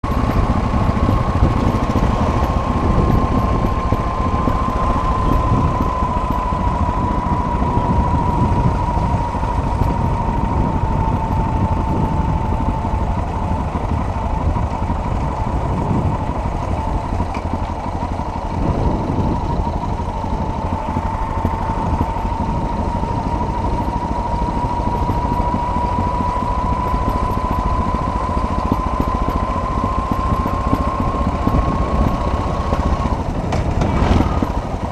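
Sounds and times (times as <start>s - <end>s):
motorcycle engine rumble: 0.0s - 34.9s
thin steady whine: 0.0s - 34.9s.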